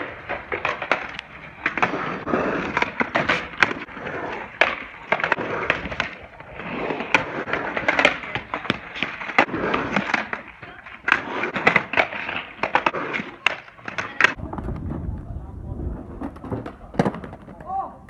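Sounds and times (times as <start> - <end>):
skateboard clacking on concrete: 0.0 - 18.0
skateboard wheels rolling on concrete: 0.0 - 18.0.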